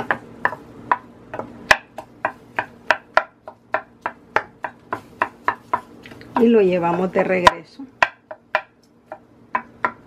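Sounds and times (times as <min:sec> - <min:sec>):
wooden spoon tapping glass dish: 0:00.0 - 0:10.0.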